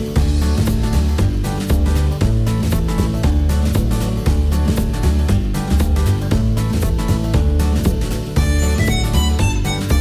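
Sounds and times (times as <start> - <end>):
steady-beat music with guitar and bass: 0.0 - 10.0.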